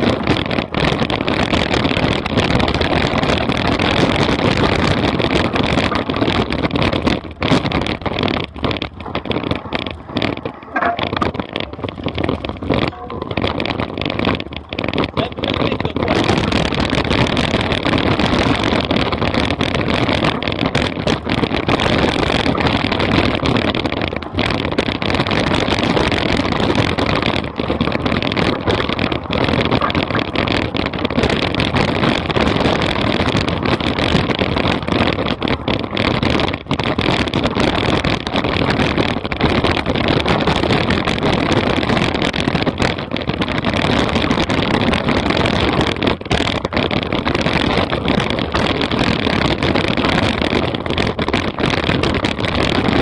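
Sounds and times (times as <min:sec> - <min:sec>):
bike tyres rattling over dirt: 0:00.0 - 0:53.0
wind buffeting microphone: 0:00.0 - 0:53.0.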